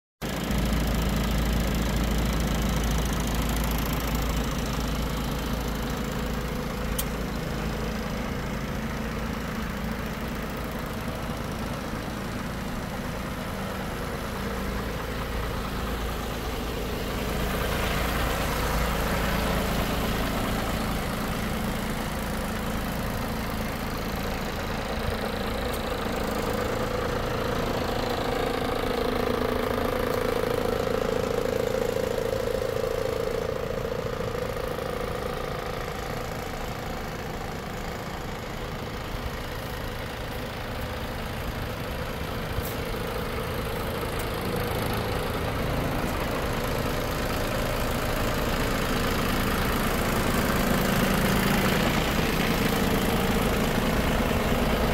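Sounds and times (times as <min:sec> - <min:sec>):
diesel truck engine idling: 0:00.2 - 0:54.9.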